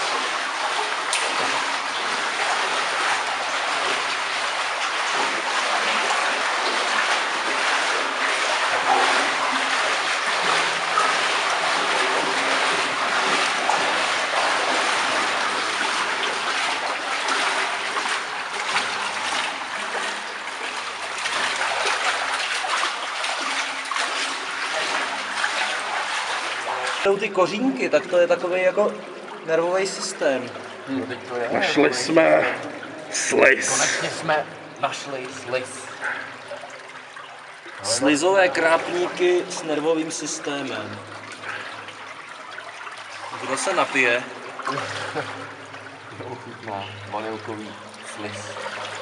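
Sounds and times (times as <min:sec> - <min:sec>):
wastewater flowing and splashing: 0:00.0 - 0:49.0.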